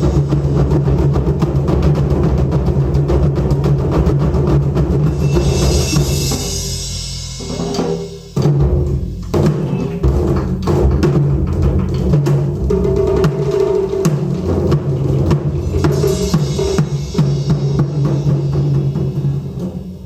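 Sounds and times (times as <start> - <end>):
taiko drums ensemble: 0.0 - 20.0.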